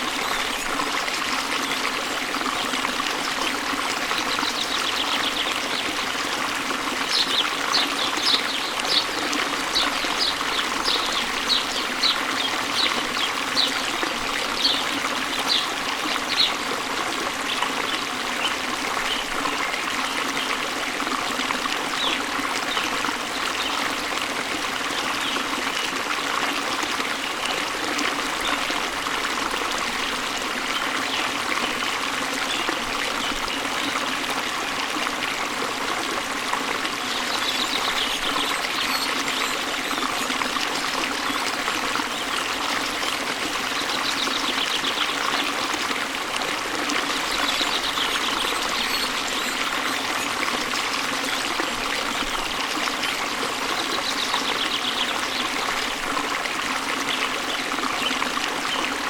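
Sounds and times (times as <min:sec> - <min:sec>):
waterfall rushing into stream: 0:00.0 - 0:59.0.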